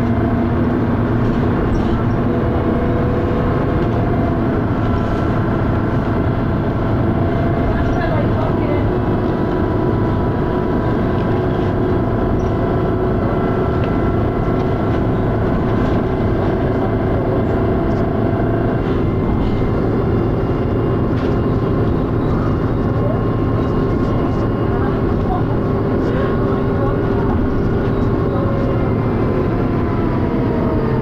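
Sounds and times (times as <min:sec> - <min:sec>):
bus engine and gearbox: 0:00.0 - 0:31.0.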